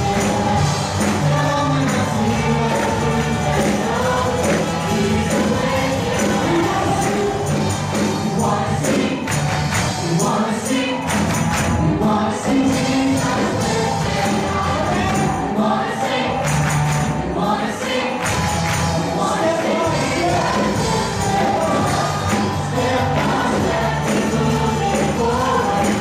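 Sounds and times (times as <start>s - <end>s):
drum kit: 0.0s - 15.8s, 18.2s - 26.0s
group of singers singing: 0.0s - 26.0s.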